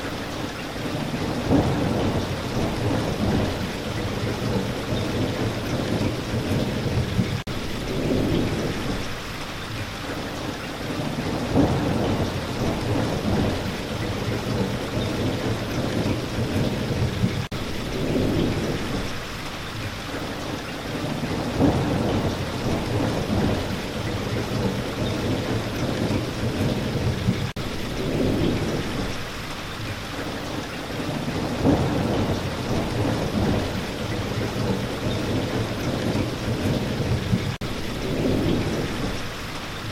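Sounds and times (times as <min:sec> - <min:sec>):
heavy rain: 0:00.0 - 0:39.9
thunder rumbling: 0:00.9 - 0:09.3, 0:10.8 - 0:19.3, 0:20.8 - 0:29.4, 0:30.2 - 0:39.9.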